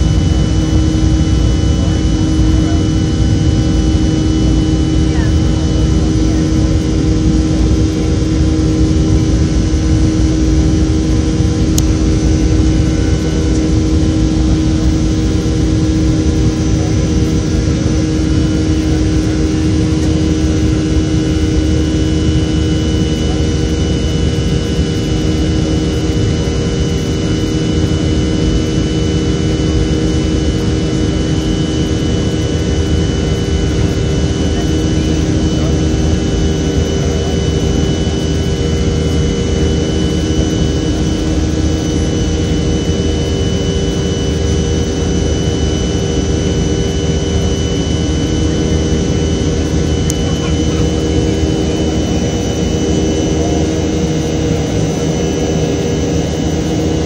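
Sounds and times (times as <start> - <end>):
jet engines humming in flight: 0.0 - 57.0.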